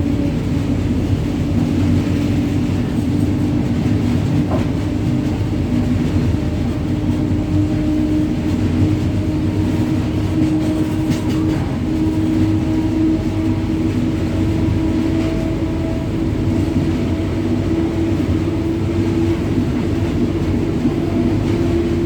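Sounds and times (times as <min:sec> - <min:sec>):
electric locomotive running: 0:00.0 - 0:22.0.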